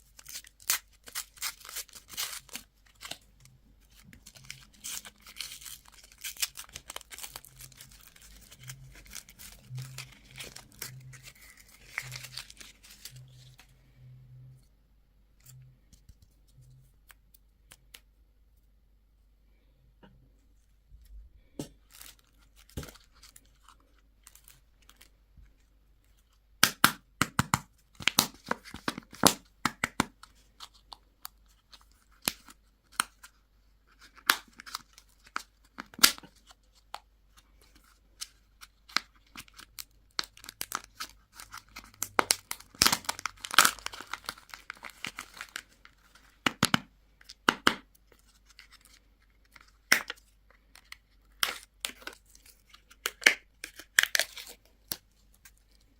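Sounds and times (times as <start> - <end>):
plastic wrappers crinkling and tearing: 0.0 - 13.8, 21.6 - 25.1, 28.0 - 55.9.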